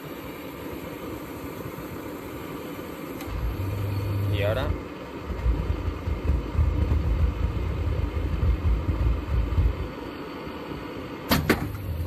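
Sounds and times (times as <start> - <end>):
oil burner humming: 0.0 - 12.0.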